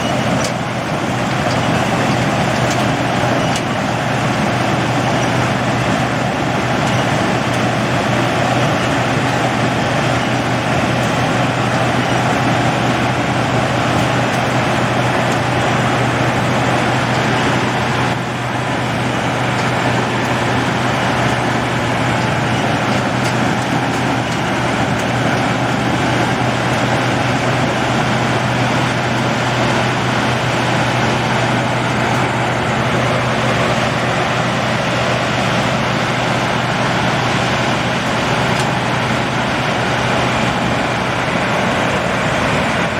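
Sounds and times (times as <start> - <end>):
combine harvester engine drone: 0.0 - 42.9.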